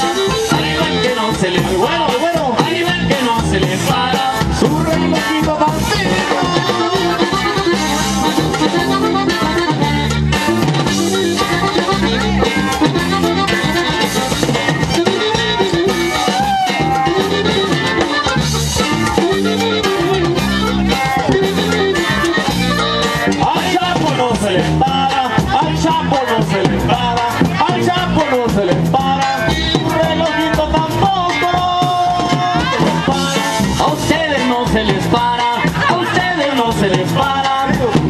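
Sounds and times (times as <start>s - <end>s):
accordion: 0.0s - 38.0s
bass: 0.0s - 38.0s
drum kit beat: 0.0s - 38.0s
guitars: 0.0s - 38.0s.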